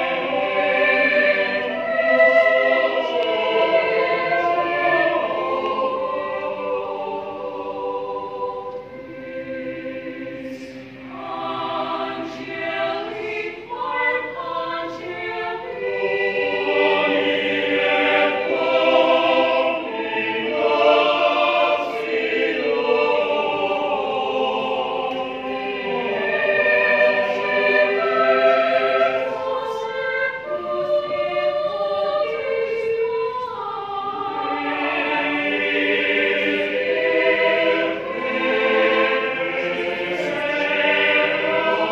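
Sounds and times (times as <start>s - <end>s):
mixed choir singing: 0.0s - 41.9s.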